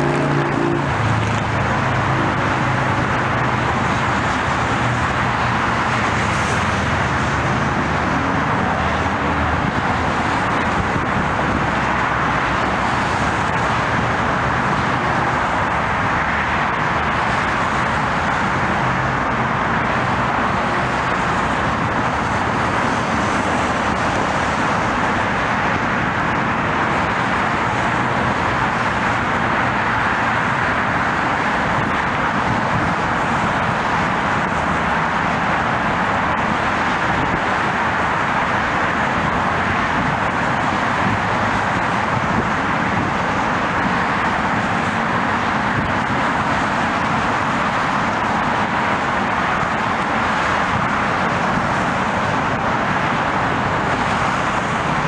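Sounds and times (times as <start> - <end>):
traffic roar: 0.0 - 55.0.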